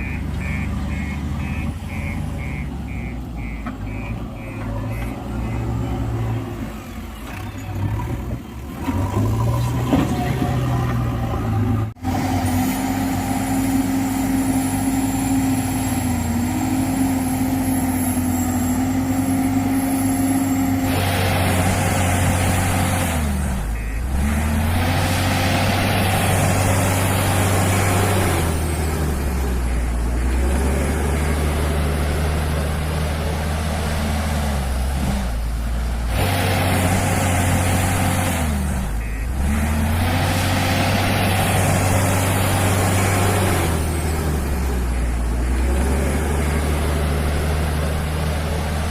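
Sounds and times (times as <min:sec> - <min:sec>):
diesel loader engine running: 0:00.0 - 0:48.9.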